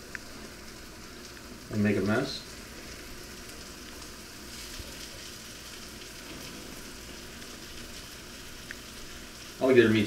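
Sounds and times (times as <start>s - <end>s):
meat sizzling in a skillet: 0.0s - 10.0s.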